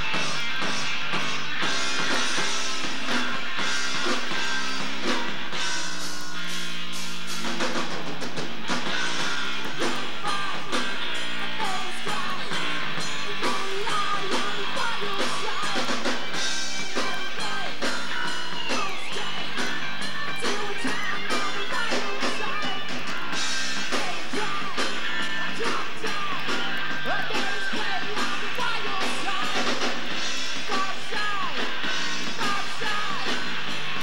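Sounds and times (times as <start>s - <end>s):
drum kit: 0.0s - 34.0s
electric guitar: 0.0s - 34.0s
live rock band playing: 0.0s - 34.0s.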